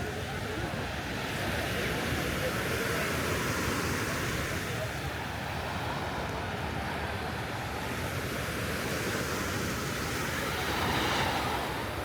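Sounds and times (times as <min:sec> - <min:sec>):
ocean surf on beach: 0:02.0 - 0:12.0.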